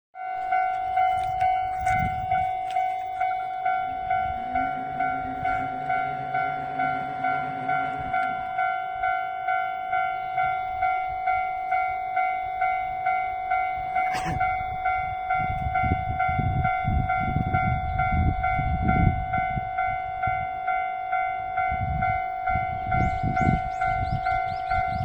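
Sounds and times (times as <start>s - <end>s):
level crossing warning bell: 0.2s - 25.0s.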